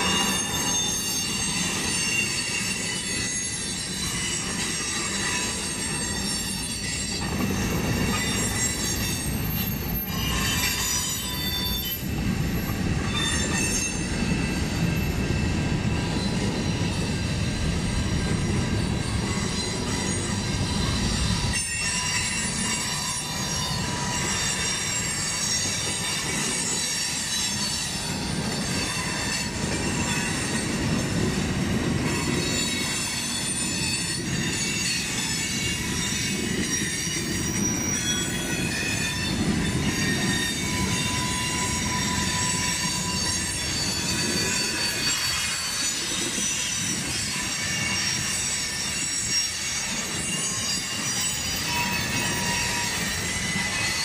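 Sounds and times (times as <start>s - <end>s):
train wheels rumbling on rail: 0.0s - 54.0s
wheels squealing: 0.0s - 54.0s.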